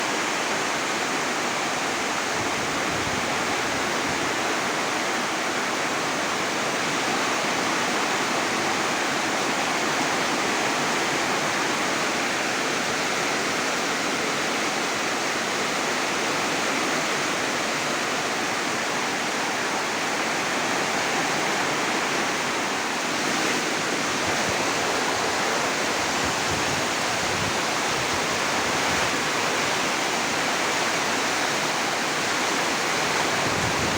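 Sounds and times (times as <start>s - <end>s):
heavy rain in strong wind: 0.0s - 33.9s.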